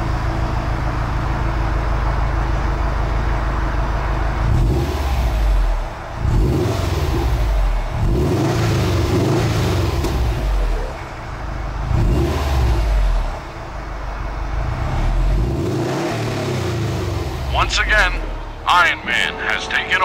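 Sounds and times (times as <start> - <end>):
car engine revving: 3.6 - 20.0.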